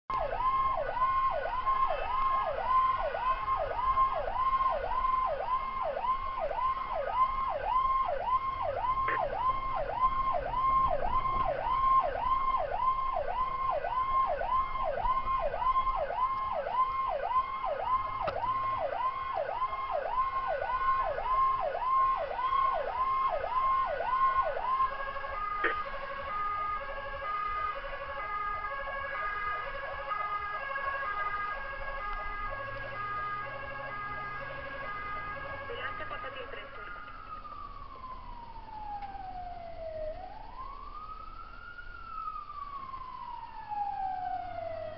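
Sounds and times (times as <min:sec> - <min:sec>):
emergency vehicle siren: 0:00.0 - 0:44.9.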